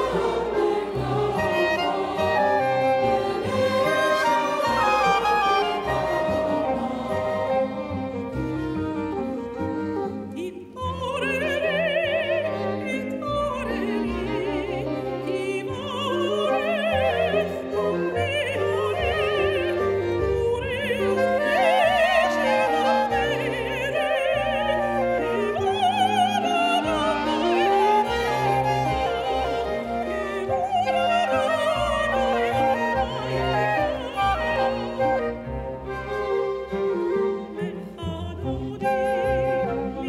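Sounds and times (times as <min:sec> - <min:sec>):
soprano singing operatically: 0:00.0 - 0:08.2, 0:10.3 - 0:35.6, 0:37.4 - 0:40.0
chamber orchestra: 0:00.0 - 0:40.0.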